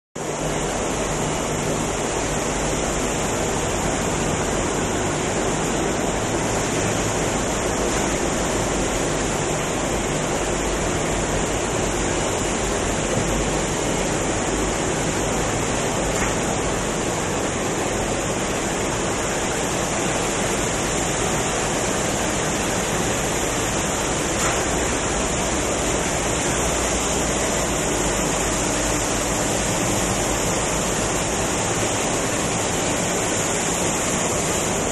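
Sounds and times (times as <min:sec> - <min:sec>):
factory machinery noise: 0:00.2 - 0:34.9.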